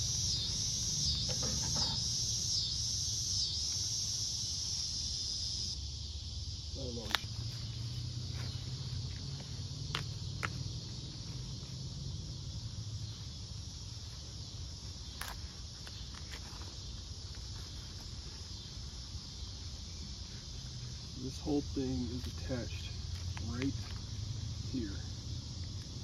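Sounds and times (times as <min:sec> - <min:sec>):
high insect chorus: 0:00.0 - 0:26.0.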